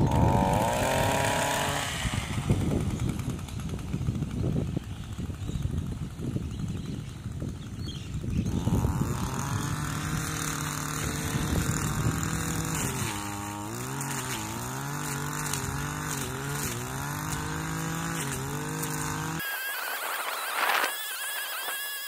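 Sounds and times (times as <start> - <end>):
brushcutter engine revving: 0.0 - 22.0.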